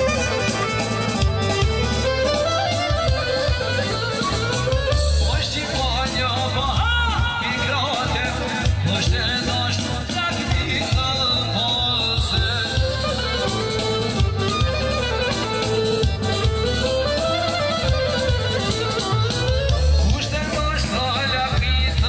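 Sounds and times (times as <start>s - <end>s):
live band dance music: 0.0s - 22.0s.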